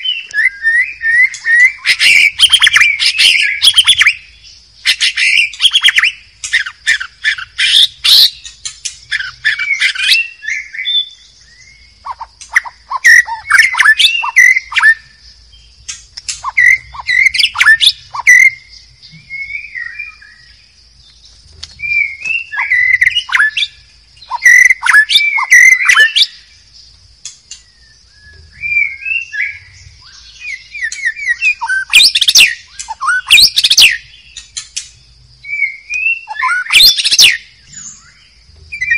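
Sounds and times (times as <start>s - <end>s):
bird singing whistles and chatter: 0.0s - 15.2s, 15.8s - 26.5s, 27.3s - 38.9s.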